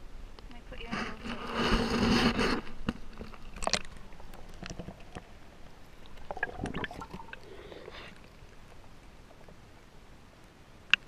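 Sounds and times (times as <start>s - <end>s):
water splashing and sloshing: 0.8s - 11.0s.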